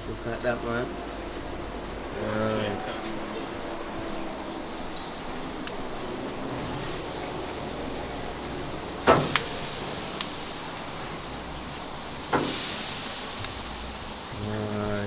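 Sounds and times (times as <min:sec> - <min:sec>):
steady hiss: 0:00.0 - 0:15.0
short sizzle: 0:01.3 - 0:15.0.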